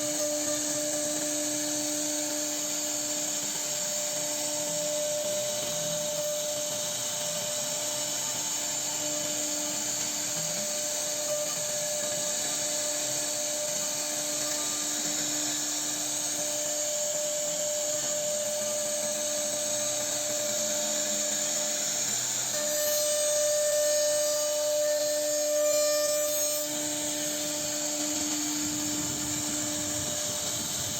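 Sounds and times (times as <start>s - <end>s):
router spindle cutting wood: 0.0s - 30.9s.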